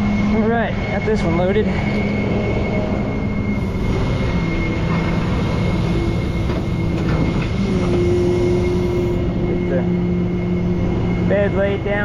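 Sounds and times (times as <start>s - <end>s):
hydraulic whine: 0.0s - 12.0s
truck engine drone: 0.0s - 12.0s.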